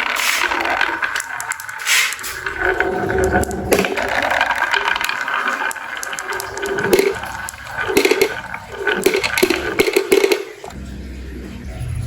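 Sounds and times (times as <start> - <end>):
marbles clicking: 0.0 - 10.8
marbles rolling on wooden track: 0.0 - 10.8.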